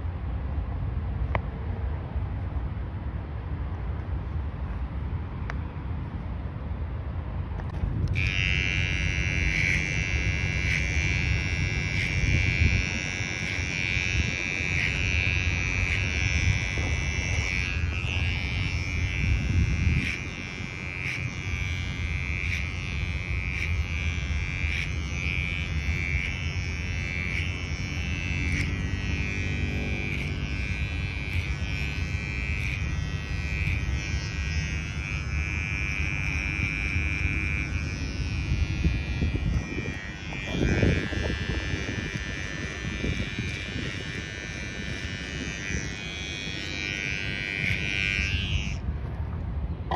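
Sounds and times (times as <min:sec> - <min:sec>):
hair clipper whining: 0:07.6 - 0:48.8.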